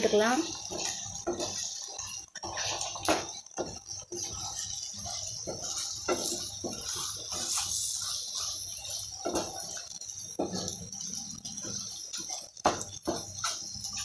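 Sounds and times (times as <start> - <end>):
faint frying sizzle: 0.0 - 14.0
wooden spatula scraping a frying pan: 0.1 - 14.0.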